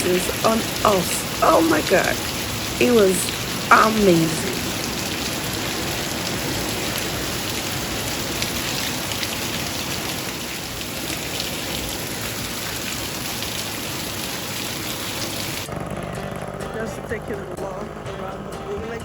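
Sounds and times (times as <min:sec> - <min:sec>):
raindrop splashes: 0:00.0 - 0:15.7
heavy rain pouring: 0:00.0 - 0:19.0.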